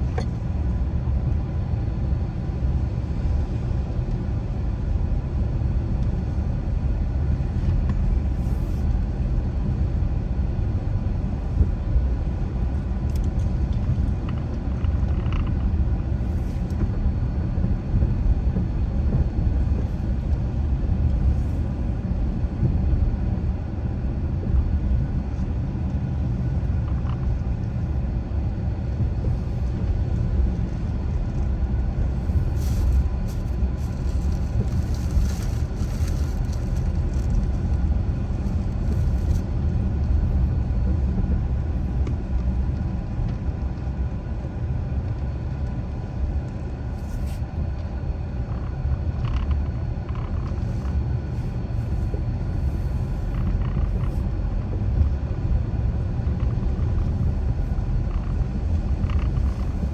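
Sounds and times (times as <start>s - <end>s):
car road rumble: 0.0s - 59.9s.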